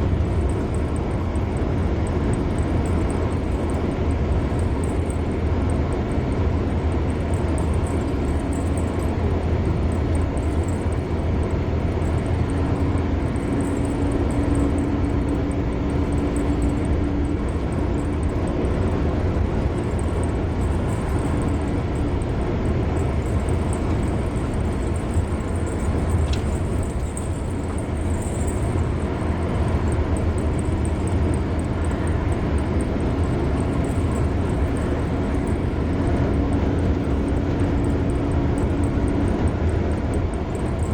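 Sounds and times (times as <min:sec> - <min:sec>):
low engine hum: 0:00.0 - 0:40.9
road and tyre noise: 0:00.0 - 0:40.9.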